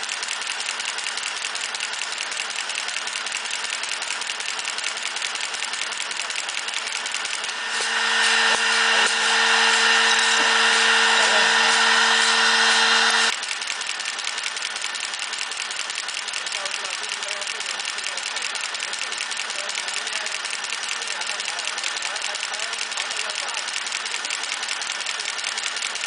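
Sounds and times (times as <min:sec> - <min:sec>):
machine mechanical clatter: 0:00.0 - 0:26.0
motor whine: 0:00.0 - 0:26.0.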